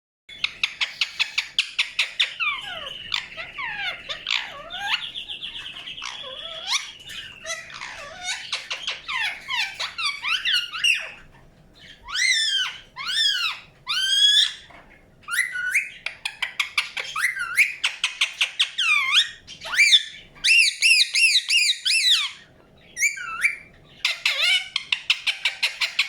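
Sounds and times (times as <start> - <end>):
parakeet chirping and whistling: 0.3 - 11.2, 11.8 - 26.0.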